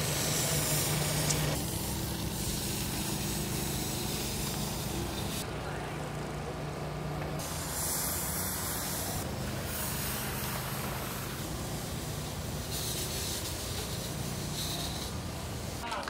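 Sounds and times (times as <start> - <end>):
steady hissing noise: 0.0 - 5.8, 7.2 - 16.0.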